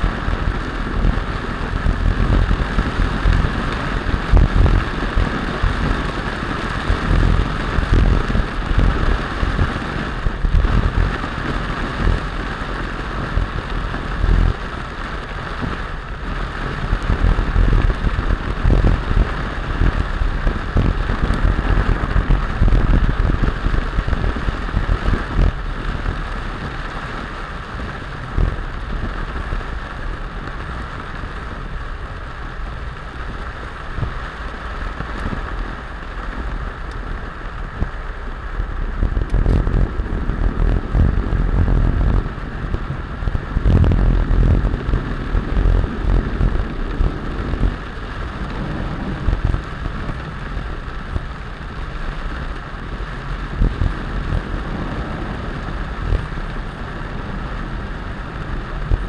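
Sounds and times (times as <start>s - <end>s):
heavy rain falling: 0.0s - 59.0s
low rumbles: 0.0s - 59.0s.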